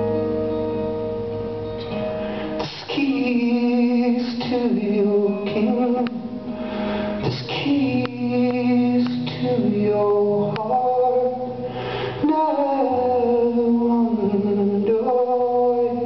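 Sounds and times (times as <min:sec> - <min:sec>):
strummed acoustic guitar: 0:00.0 - 0:16.0
man singing: 0:02.5 - 0:16.0.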